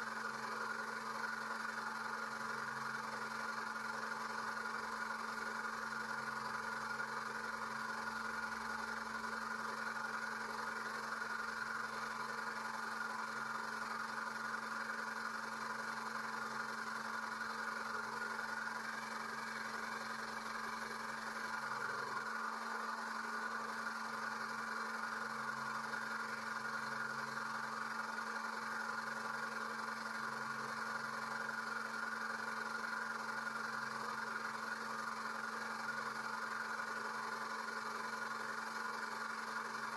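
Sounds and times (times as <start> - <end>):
electric pump humming: 0.0 - 39.9.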